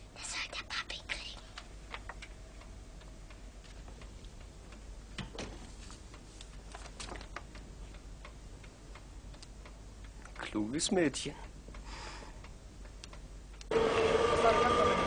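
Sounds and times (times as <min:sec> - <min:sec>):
low steady hum: 0:00.0 - 0:13.8
faint clicks and ticks: 0:00.2 - 0:13.7.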